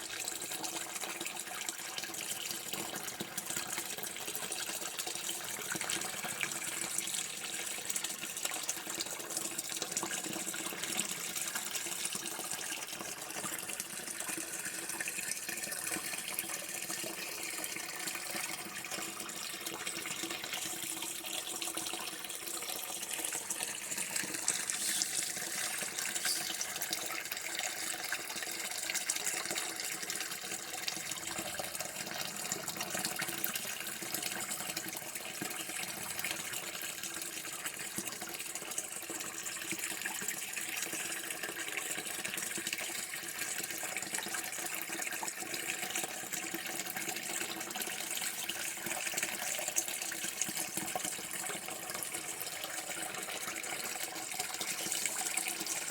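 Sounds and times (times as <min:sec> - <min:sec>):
water running from a tap: 0:00.0 - 0:55.9.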